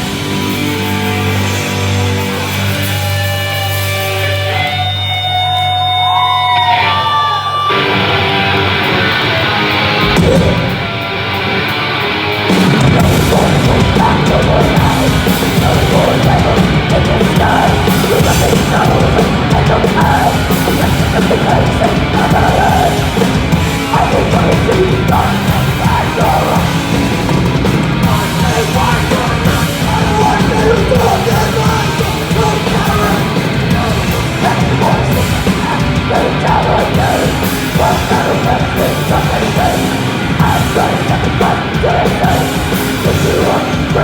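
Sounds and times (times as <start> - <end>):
heavy rock band playing live: 0.0 - 44.0.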